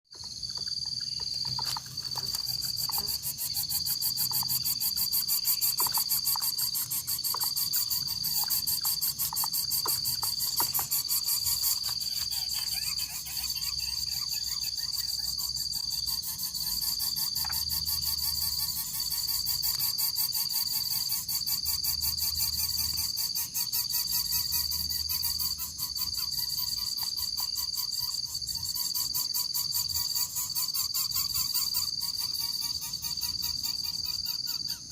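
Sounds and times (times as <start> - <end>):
crickets trilling: 0.1 - 34.9
faint insect chirps and ticks: 0.1 - 34.9.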